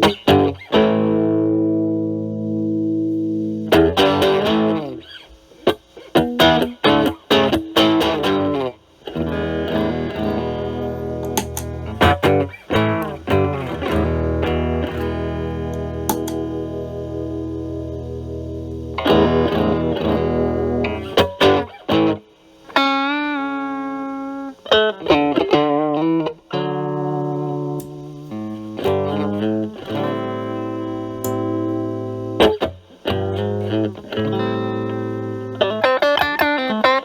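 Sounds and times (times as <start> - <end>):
overdriven electric guitar chords: 0.0 - 37.0.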